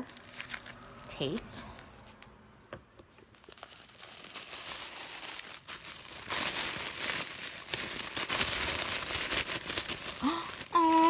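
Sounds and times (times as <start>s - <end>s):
gift wrapper crinkling and tearing: 0.0s - 1.9s, 3.2s - 11.0s.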